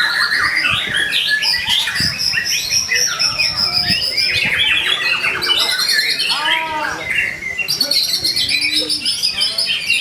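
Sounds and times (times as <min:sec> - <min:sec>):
bird singing whistles and trills: 0:00.0 - 0:06.4, 0:07.0 - 0:10.0.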